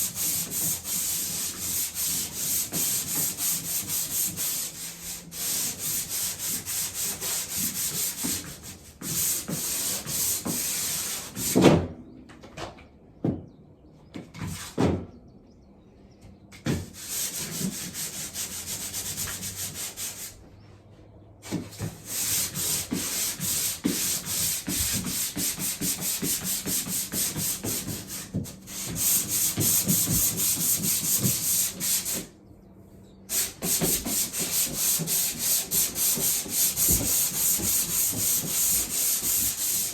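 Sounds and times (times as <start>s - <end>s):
sandpaper rubbing on drywall: 0.0s - 11.6s, 16.7s - 20.4s, 21.4s - 32.3s, 33.3s - 39.9s.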